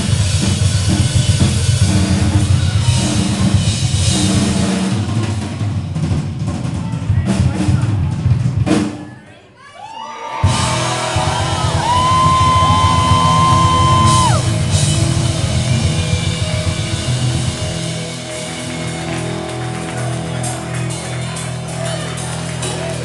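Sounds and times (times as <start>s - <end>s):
held bass line: 0.0s - 6.7s, 10.4s - 23.0s
rock band playing loudly: 0.0s - 9.1s, 10.4s - 23.0s
drum kit: 0.0s - 9.2s, 10.4s - 23.0s.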